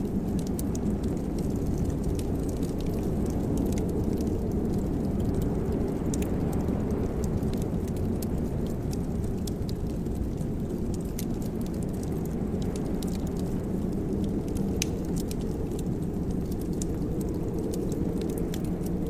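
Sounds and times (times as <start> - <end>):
fire crackling and popping: 0.0 - 19.0
low rushing of fire: 0.0 - 19.0.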